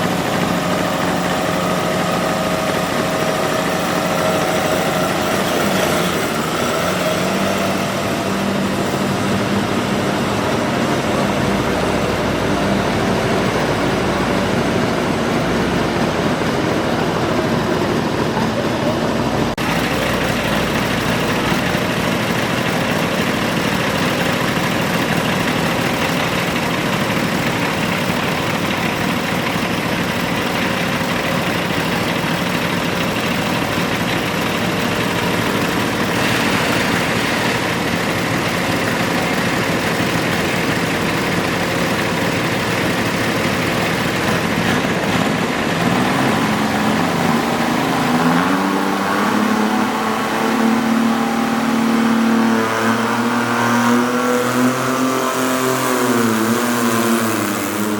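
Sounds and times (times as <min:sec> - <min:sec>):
tractor engine idling and revving: 0:00.0 - 0:57.9.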